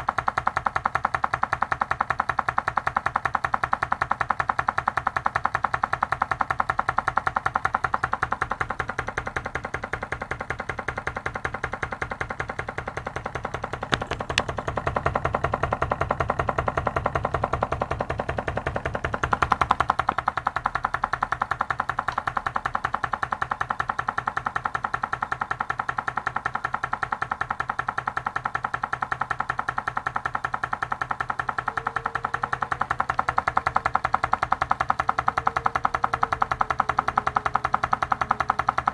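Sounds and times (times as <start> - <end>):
stirling engine mechanical ticking: 0.0 - 38.9.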